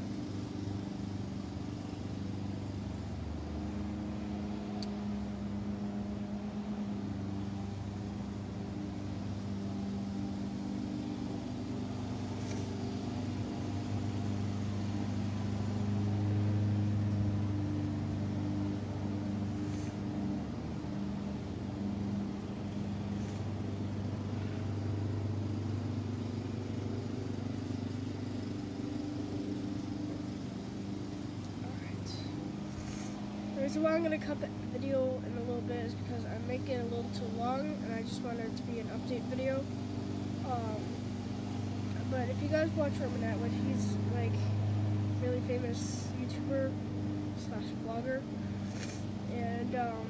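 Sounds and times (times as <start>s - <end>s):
low machine hum with tones: 0.0s - 50.0s.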